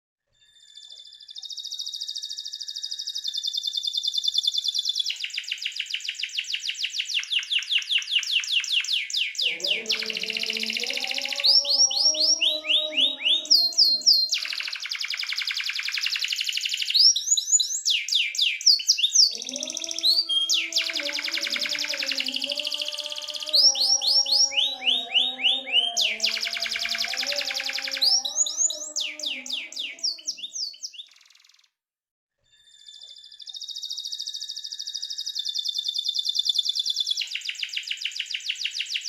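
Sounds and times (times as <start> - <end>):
canary singing: 0.6 - 31.7, 32.7 - 39.0.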